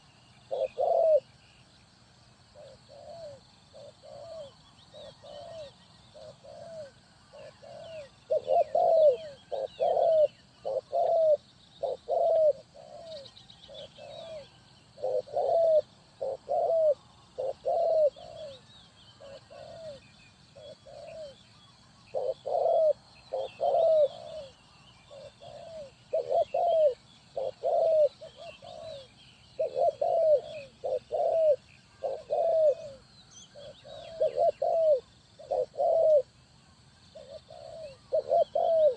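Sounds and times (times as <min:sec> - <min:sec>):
dove cooing: 0:00.0 - 0:01.6, 0:02.5 - 0:36.4, 0:37.0 - 0:38.9
faint small birds chirping: 0:00.0 - 0:38.9.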